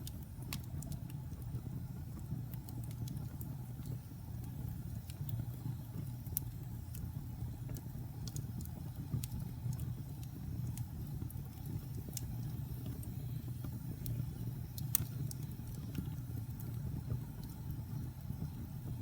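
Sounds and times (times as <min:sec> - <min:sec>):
wood fire rumbling and crackling: 0:00.0 - 0:19.0.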